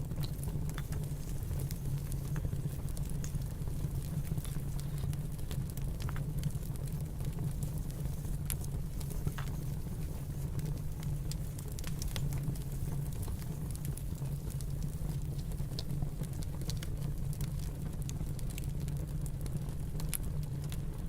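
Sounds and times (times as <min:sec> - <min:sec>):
fire snapping and popping: 0:00.0 - 0:21.0
low fire rumble: 0:00.0 - 0:21.0.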